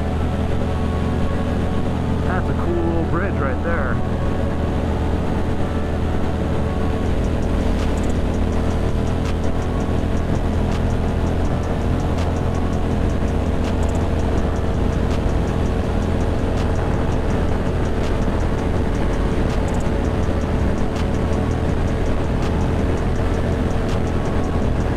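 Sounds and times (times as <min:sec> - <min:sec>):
motorcycle engine running: 0:04.0 - 0:24.9.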